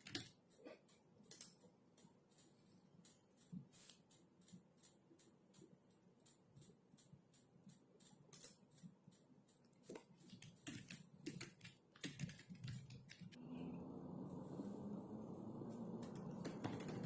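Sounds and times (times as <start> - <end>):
keyboard typing: 0.0 - 13.4, 15.1 - 17.0.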